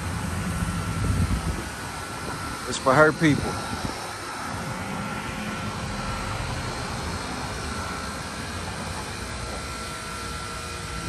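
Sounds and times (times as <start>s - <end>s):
faint high whine: 0.0s - 11.0s
mechanical drone and hiss: 0.0s - 11.0s.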